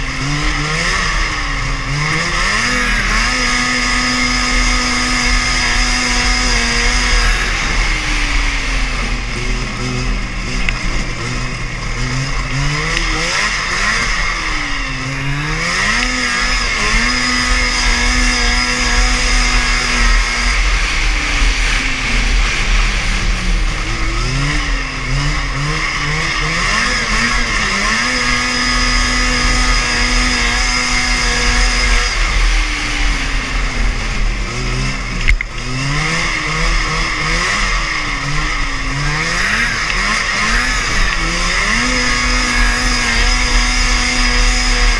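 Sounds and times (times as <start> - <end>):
snowmobile engine revving: 0.0 - 44.9.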